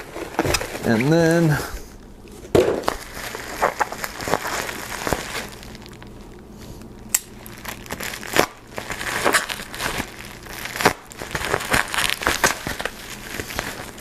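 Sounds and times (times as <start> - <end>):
packaging crinkling: 0.0 - 1.7, 2.4 - 14.0.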